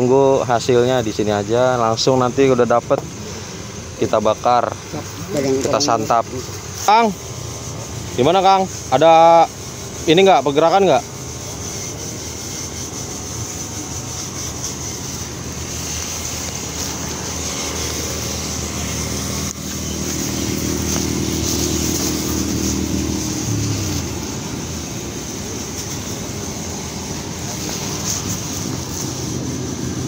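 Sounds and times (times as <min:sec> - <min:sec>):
vehicle engine passing: 0:02.6 - 0:30.0.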